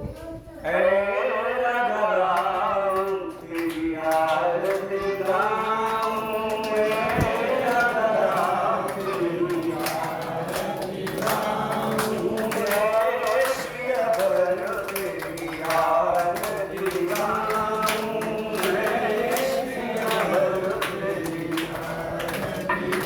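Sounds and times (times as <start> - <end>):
men chanting a hymn: 0.6 - 23.0.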